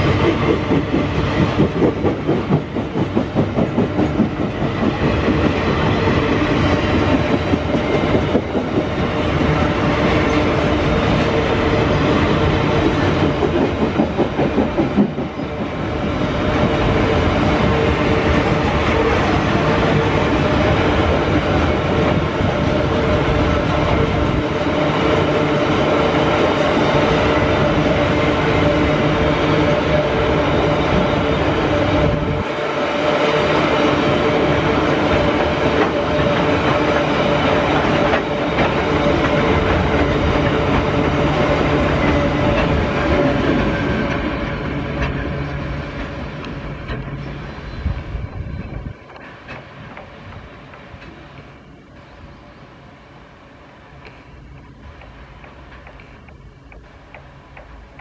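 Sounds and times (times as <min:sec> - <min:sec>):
train wheels clattering over rails: 0:00.0 - 0:52.2, 0:53.8 - 0:58.0.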